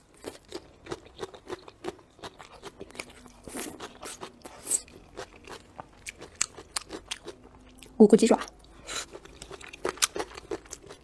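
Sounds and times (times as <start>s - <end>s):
crisp crunching while eating: 0.0s - 11.0s
wet chewing clicks: 0.2s - 11.0s.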